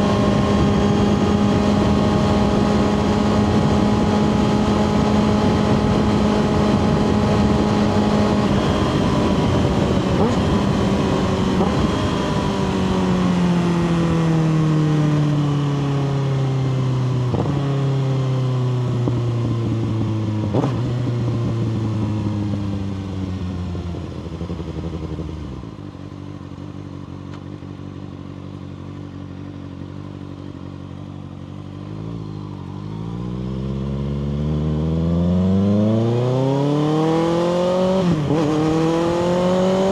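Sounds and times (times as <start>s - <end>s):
motorcycle engine revving: 0.0s - 15.3s, 16.7s - 39.9s.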